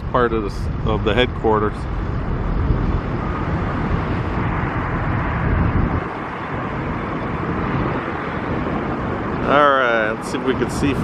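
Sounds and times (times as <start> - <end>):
vehicle traffic rumble: 0.0 - 11.0.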